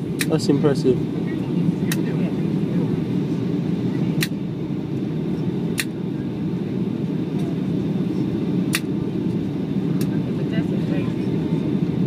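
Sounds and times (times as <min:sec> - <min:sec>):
airplane engines rumbling: 0:00.0 - 0:12.0.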